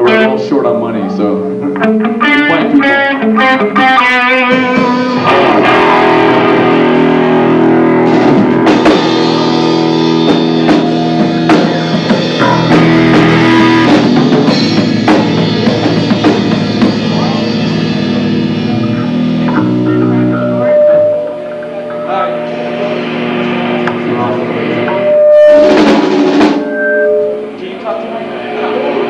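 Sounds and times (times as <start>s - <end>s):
loud electric guitars: 0.0s - 29.0s
drum kit hits: 2.2s - 27.6s.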